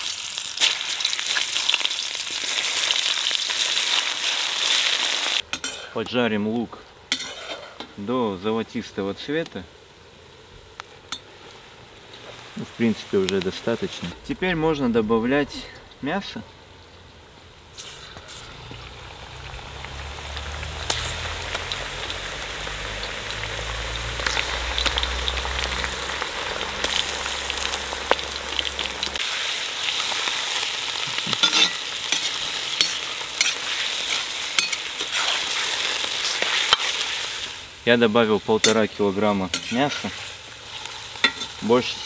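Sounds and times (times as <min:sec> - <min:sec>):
meat sizzling in fat: 0:00.0 - 0:06.0, 0:07.0 - 0:42.0.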